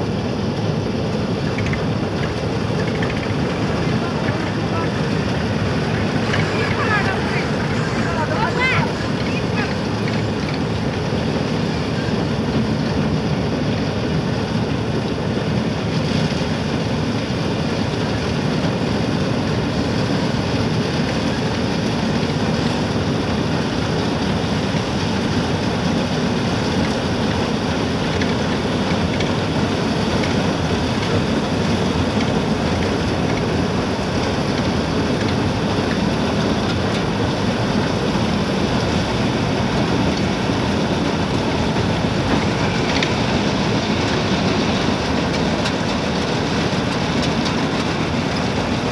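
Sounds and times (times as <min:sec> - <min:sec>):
combine harvester running: 0:00.0 - 0:48.9.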